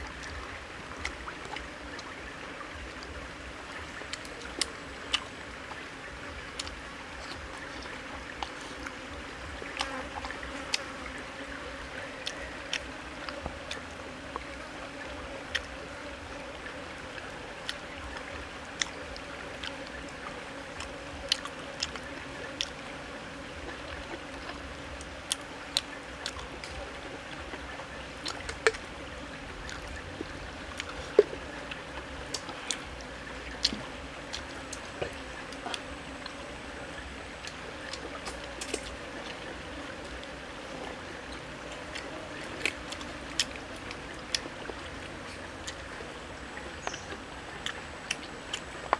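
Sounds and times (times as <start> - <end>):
stream flowing: 0.0 - 48.9.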